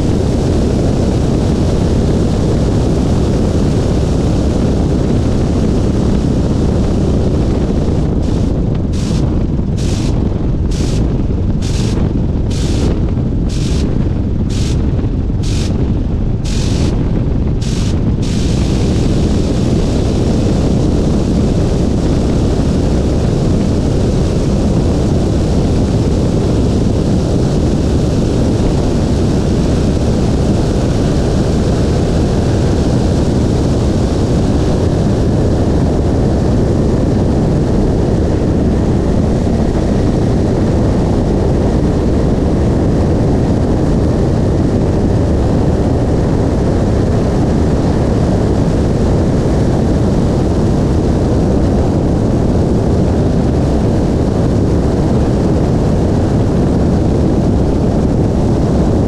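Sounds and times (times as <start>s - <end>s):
biplane engine at full power: 0.0s - 59.0s.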